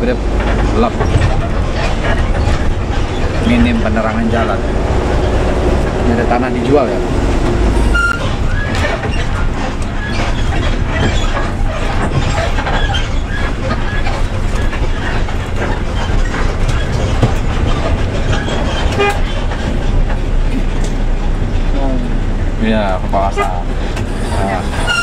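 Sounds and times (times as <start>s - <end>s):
bus body rattling: 0.0s - 25.0s
bus engine rumbling: 0.0s - 25.0s.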